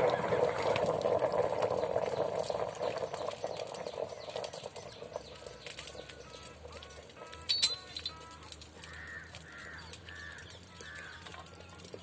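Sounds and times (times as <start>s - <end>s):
welding crackling and sputtering: 0.0s - 12.0s.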